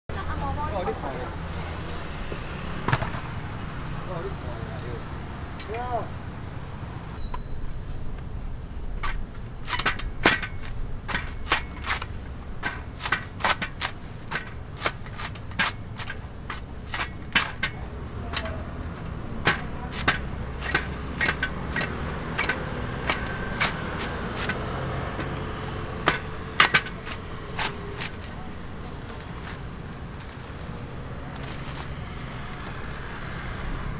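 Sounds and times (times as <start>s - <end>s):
low street rumble: 0.1s - 33.9s.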